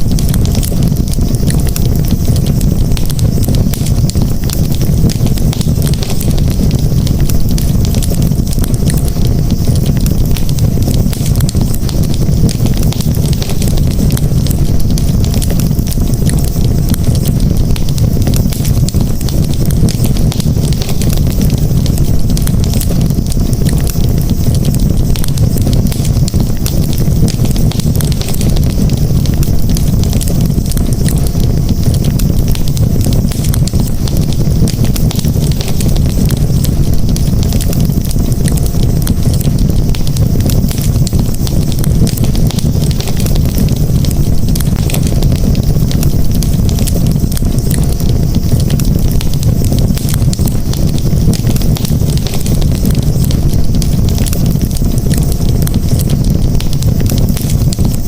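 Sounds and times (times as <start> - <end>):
campfire flames rushing: 0.0 - 58.0
wood crackling and popping: 0.0 - 58.0.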